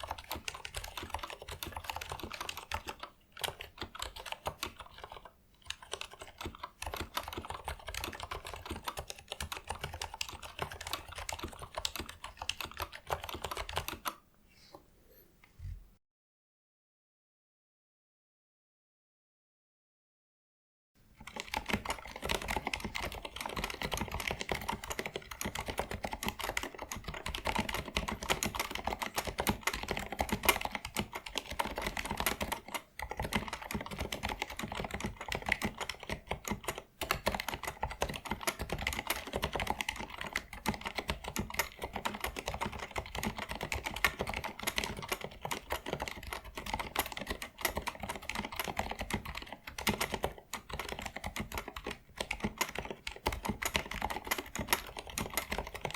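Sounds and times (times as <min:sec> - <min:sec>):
muffled mechanical keyboard typing: 0:00.0 - 0:14.2, 0:21.2 - 0:55.9.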